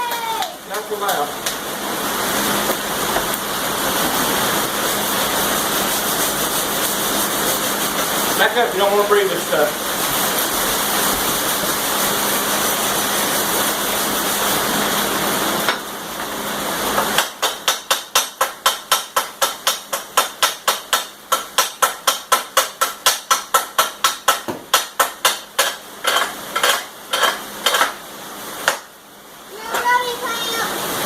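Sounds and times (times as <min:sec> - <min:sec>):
arc welding crackling and hissing: 0:00.0 - 0:31.0.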